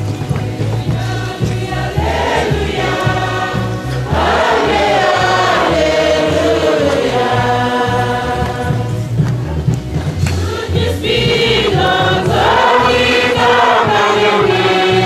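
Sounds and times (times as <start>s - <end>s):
choir singing a hymn: 0.0s - 9.2s, 10.0s - 15.0s
low rhythmic accompaniment: 0.0s - 15.0s.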